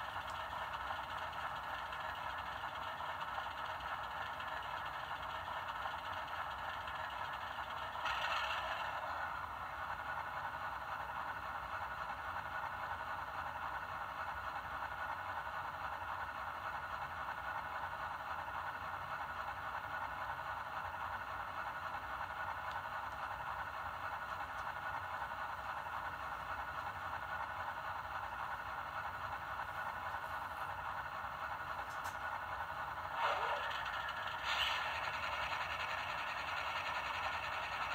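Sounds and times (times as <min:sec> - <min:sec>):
model locomotive diesel idle: 0:00.0 - 0:37.9.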